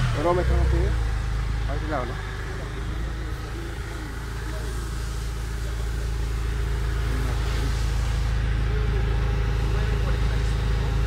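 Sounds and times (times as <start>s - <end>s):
forklift engine droning: 0.0s - 11.0s.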